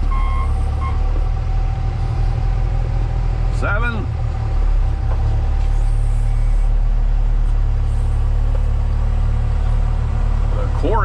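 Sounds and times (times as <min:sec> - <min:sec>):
heavy vehicle engine droning: 0:00.0 - 0:11.0.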